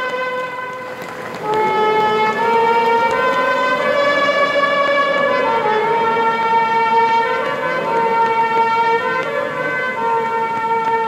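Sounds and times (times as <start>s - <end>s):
trumpet playing slow tune: 0.0s - 11.0s.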